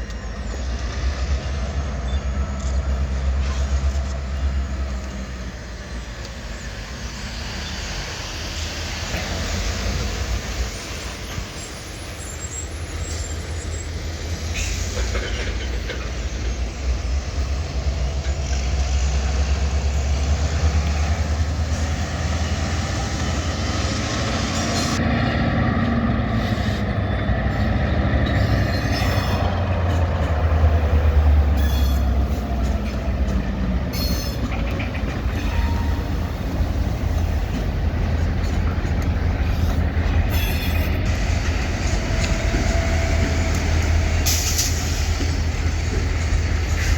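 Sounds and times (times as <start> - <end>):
diesel locomotive rumble: 0.0 - 46.9
rail cars rolling on track: 0.0 - 46.9.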